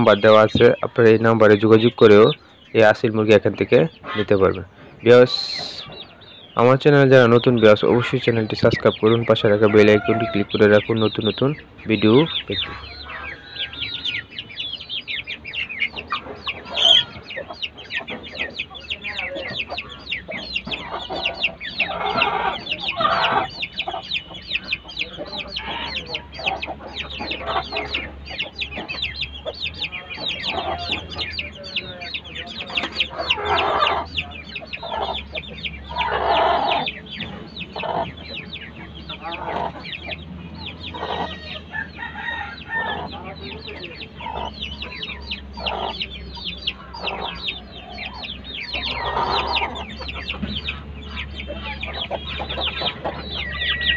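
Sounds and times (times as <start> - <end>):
chickens clucking: 0.0 - 53.9
rapid high chirping: 0.0 - 53.9.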